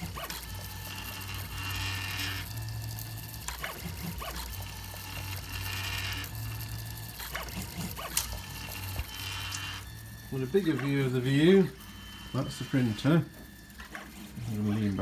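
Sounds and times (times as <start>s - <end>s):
cooling fans humming: 0.0s - 15.0s
stepper motors whining: 0.0s - 15.0s.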